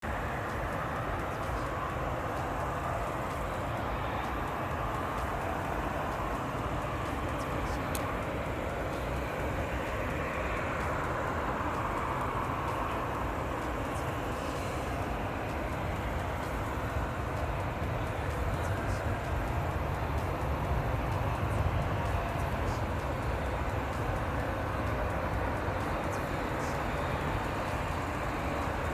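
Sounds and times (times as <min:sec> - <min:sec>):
jet airliner engine rush: 0:00.0 - 0:28.9.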